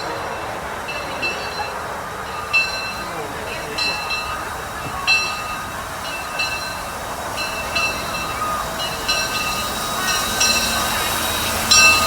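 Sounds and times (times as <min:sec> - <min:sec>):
high-pitched metallic tones: 0:00.0 - 0:12.0
rail vehicle rumbling: 0:00.0 - 0:12.0.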